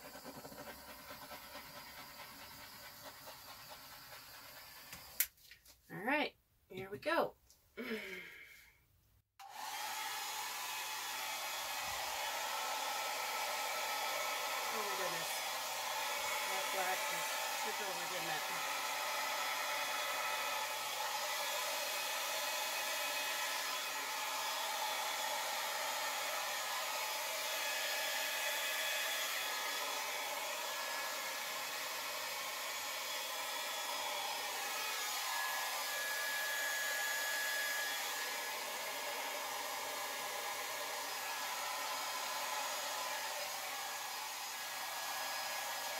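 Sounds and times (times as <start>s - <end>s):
hair dryer running: 0.0s - 5.3s, 9.4s - 45.9s.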